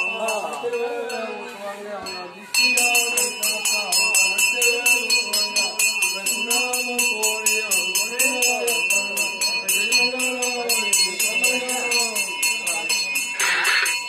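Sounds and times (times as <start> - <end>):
hand bell ringing rapidly: 2.0 - 14.0.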